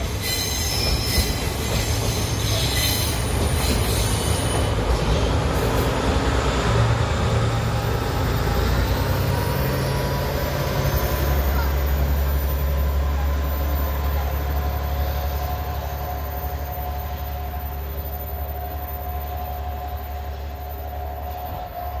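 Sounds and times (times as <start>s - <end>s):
diesel locomotive engine droning: 0.0s - 22.0s
train running on rails: 0.0s - 22.0s.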